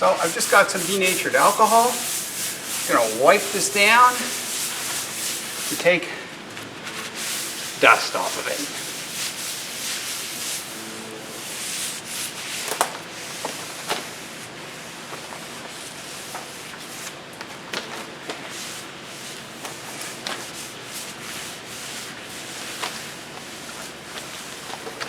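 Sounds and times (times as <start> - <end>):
cloth rag rubbing wood: 0.0 - 17.2, 18.4 - 25.0.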